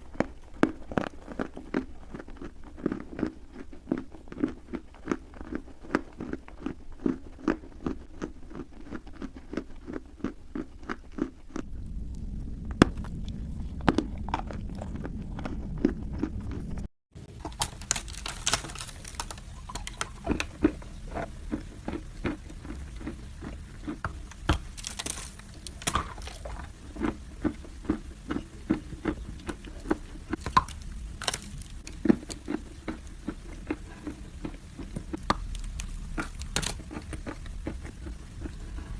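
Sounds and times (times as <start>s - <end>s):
dry clay crunching when chewed: 0.0s - 38.9s.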